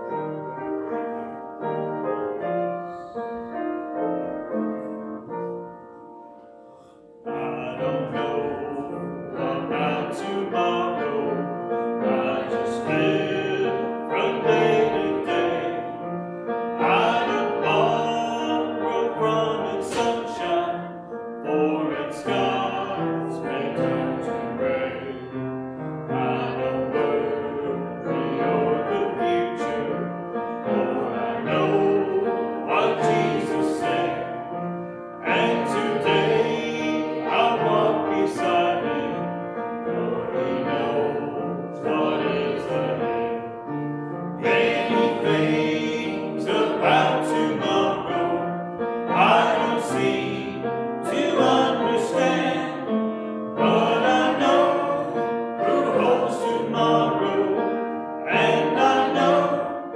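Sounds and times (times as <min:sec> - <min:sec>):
congregation singing a hymn: 0:00.0 - 0:06.0, 0:06.6 - 0:59.9
piano accompaniment: 0:00.0 - 0:59.9.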